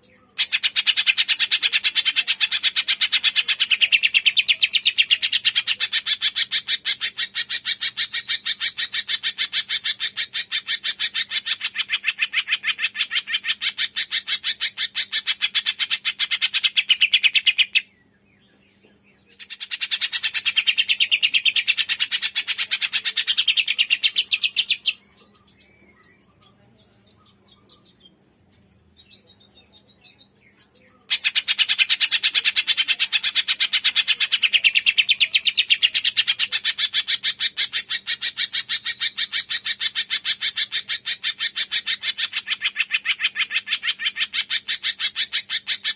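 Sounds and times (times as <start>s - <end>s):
faint bird chirps: 0.0s - 45.9s.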